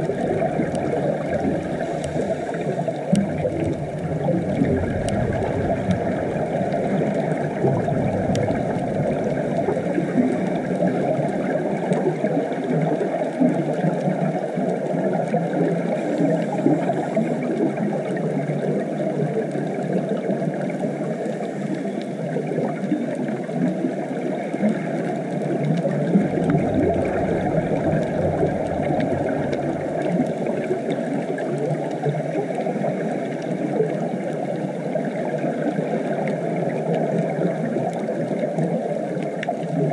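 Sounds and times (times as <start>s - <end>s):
deep underwater rumble: 0.0s - 39.9s
muffled underwater rush of water: 0.0s - 39.9s.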